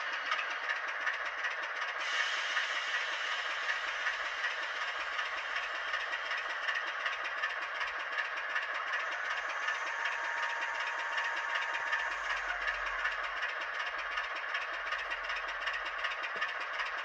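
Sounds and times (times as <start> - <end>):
thin diesel engine sound effect: 0.0 - 17.0.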